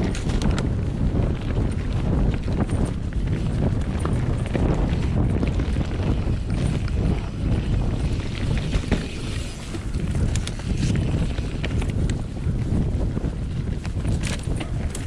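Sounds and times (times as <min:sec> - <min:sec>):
bike clicking and rattling: 0:00.0 - 0:15.0
bike tyres rumbling on dirt: 0:00.0 - 0:15.0
wind buffeting microphone: 0:00.0 - 0:15.0.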